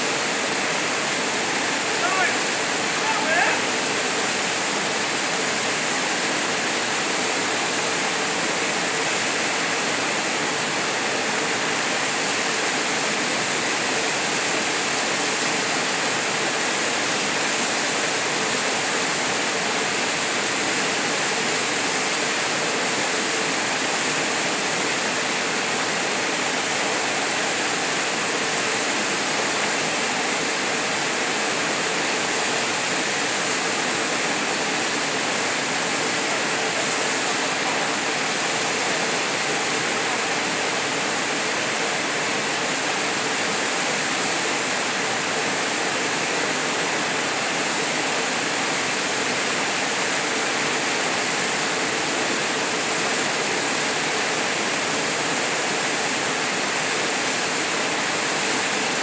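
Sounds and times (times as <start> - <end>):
small waterfall rushing: 0.0 - 59.0.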